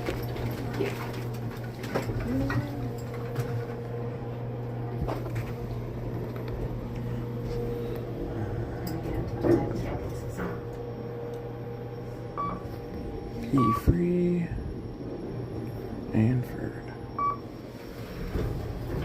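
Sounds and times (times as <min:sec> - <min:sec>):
elevator humming: 0:00.0 - 0:19.0.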